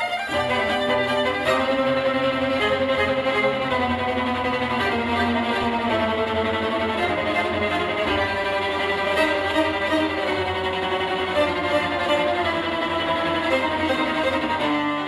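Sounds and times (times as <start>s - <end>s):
violin-led music over speakers: 0.0s - 15.0s.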